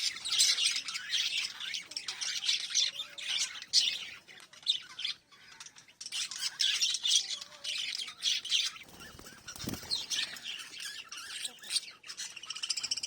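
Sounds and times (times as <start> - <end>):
parrots chirping: 0.0 - 13.0.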